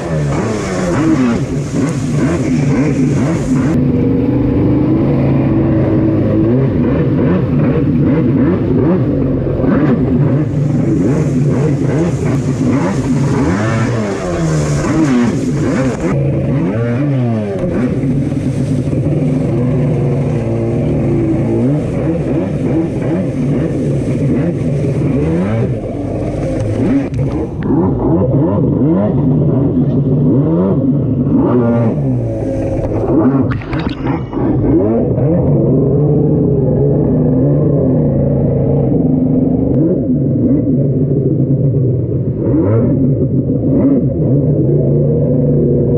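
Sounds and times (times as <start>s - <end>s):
jet ski engine revving: 0.0s - 45.9s.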